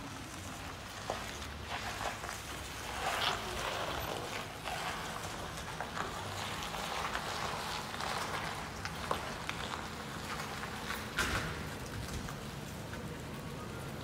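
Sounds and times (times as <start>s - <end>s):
footsteps on wet concrete: 0.0s - 13.1s
outdoor background noise: 0.0s - 14.0s.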